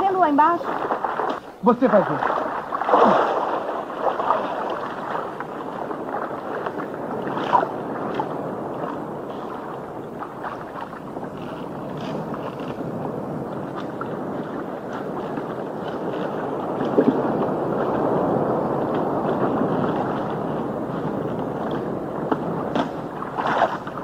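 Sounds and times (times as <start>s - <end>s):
sea water lapping: 0.0s - 24.0s
wind blowing: 0.0s - 24.0s.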